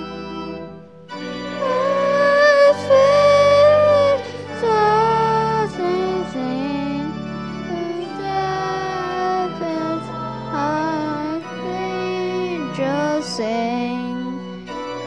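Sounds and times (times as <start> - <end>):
church organ chords: 0.0 - 15.0
children singing: 1.4 - 14.6.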